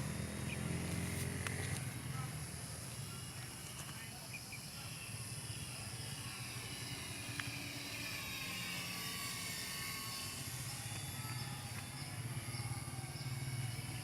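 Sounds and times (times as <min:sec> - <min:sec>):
model airplane motor whining: 0:00.0 - 0:14.0.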